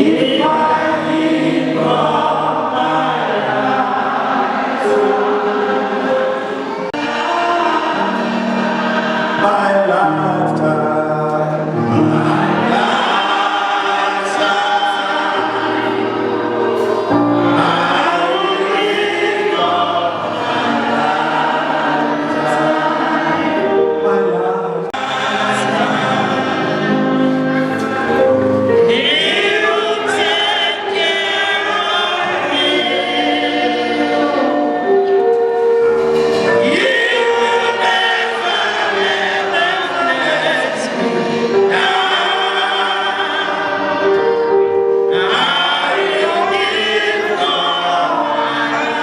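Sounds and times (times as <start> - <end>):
group singing gospel song: 0.0 - 49.0.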